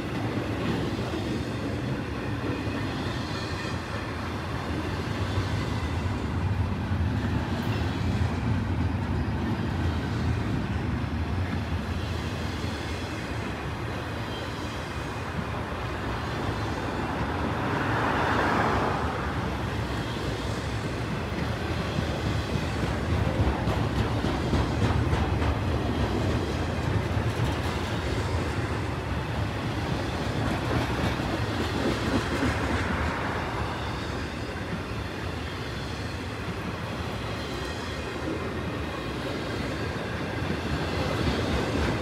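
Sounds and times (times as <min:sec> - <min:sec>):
steel train wheels on rail: 0:00.0 - 0:42.0.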